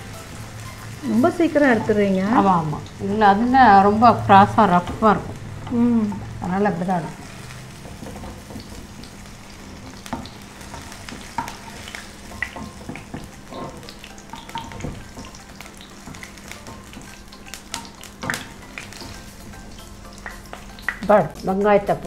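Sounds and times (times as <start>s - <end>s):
oil sizzling with crackles: 0.0s - 22.0s.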